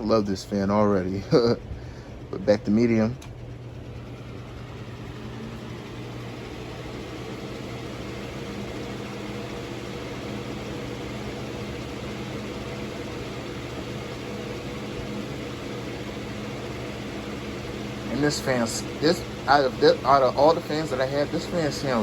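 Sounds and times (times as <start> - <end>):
box fan motor hum: 0.0 - 22.0.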